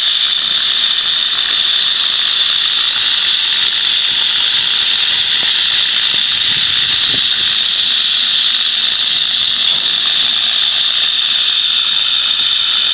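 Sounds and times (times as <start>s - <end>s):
cutting torch hissing: 0.0s - 12.9s.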